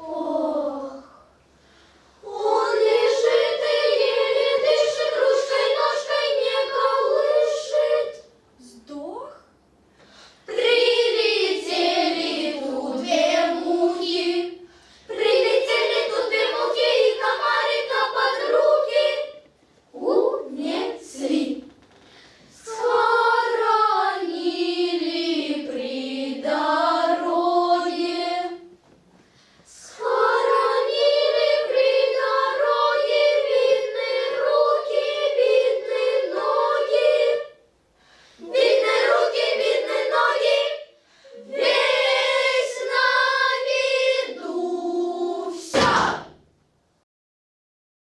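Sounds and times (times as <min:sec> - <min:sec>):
young voices singing unaccompanied: 0:00.0 - 0:08.5, 0:10.0 - 0:46.5.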